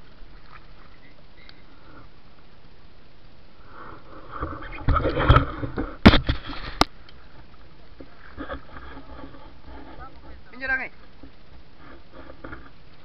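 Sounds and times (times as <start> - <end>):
water splashing and sloshing: 0.0 - 2.7, 3.7 - 13.0.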